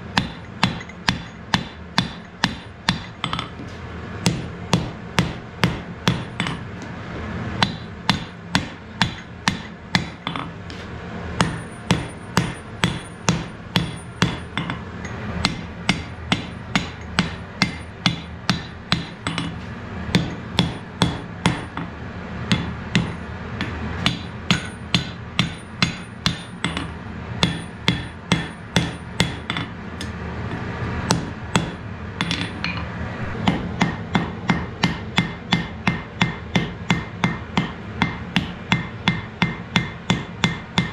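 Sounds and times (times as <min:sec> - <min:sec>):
steady low hum: 0:00.0 - 0:40.9
hammer striking metal on anvil: 0:00.1 - 0:03.5, 0:04.2 - 0:06.7, 0:07.6 - 0:10.5, 0:11.4 - 0:21.9, 0:22.5 - 0:30.2, 0:31.1 - 0:40.9.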